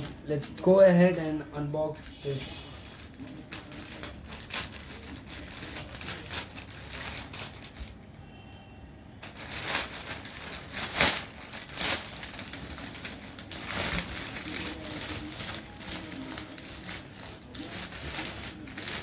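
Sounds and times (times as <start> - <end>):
packaging rustling and scraping: 0.0 - 8.2, 9.2 - 19.0.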